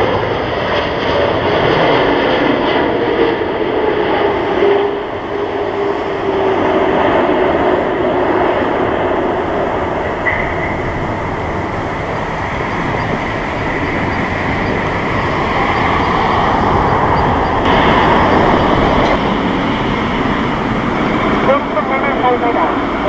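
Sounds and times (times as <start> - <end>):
loud jet engine roar: 0.0 - 23.0.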